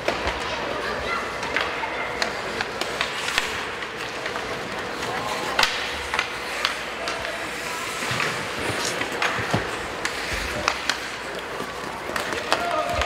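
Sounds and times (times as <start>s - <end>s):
hockey sticks and puck clacking: 0.0s - 13.0s
spectators talking: 0.0s - 13.0s.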